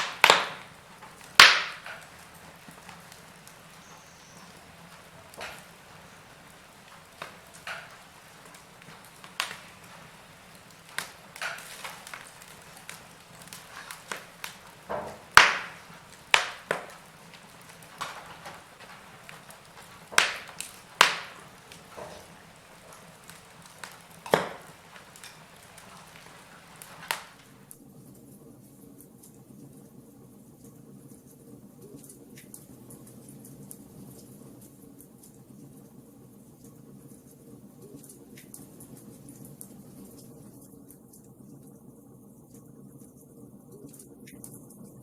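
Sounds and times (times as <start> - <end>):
burning logs popping: 0.0 - 30.0, 30.6 - 41.8
faint steady hiss: 0.0 - 45.0
wood fire crackling: 0.0 - 45.0.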